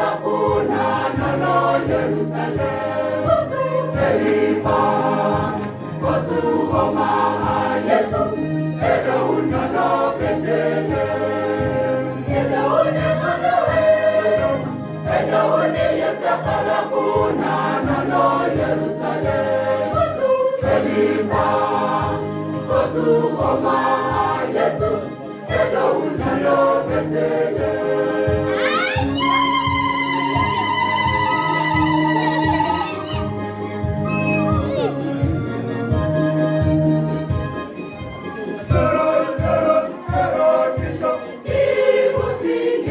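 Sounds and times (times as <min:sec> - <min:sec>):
choir singing a carol: 0:00.0 - 0:42.9
low steady accompaniment: 0:00.0 - 0:42.9.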